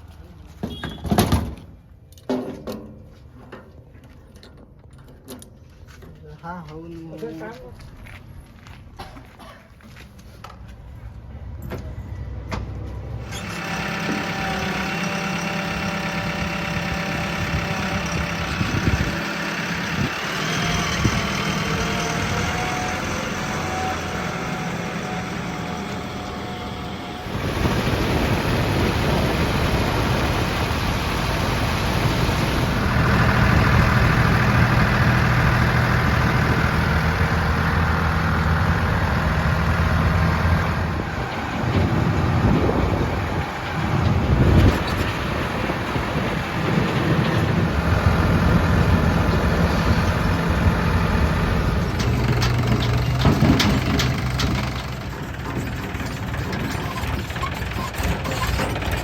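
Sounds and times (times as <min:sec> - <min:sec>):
heavy diesel engine running: 0:11.4 - 0:59.0.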